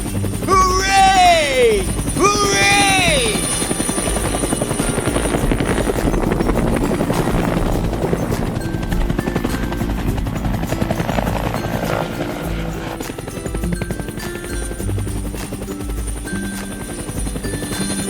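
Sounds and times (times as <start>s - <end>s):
background music: 0.0s - 18.0s
cartoon helicopter rotor chopping: 0.0s - 18.0s.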